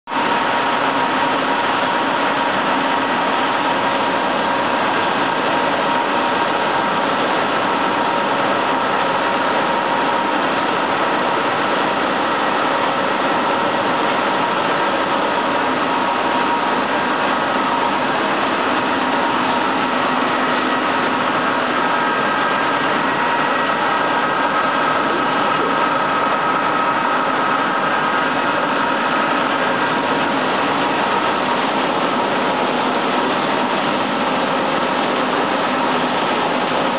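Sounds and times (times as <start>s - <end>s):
processing machinery din: 0.1s - 36.9s.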